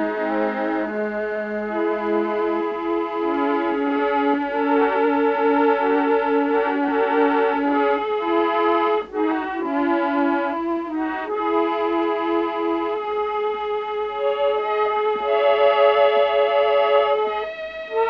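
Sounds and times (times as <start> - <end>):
harmonium melody over drone: 0.0 - 18.0.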